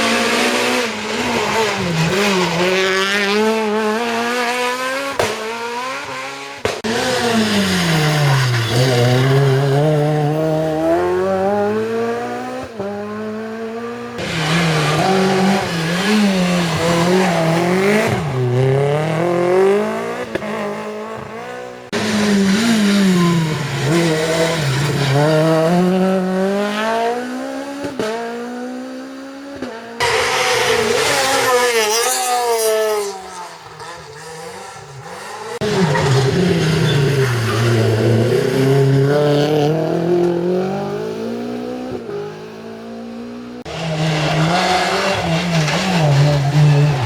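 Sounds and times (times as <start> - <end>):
rally car engines revving hard: 0.0 - 47.0.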